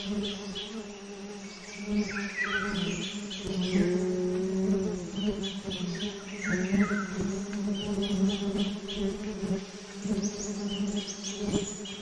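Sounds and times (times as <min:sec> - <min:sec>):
small birds chirping: 0:00.0 - 0:12.0
wasps buzzing: 0:00.0 - 0:12.0.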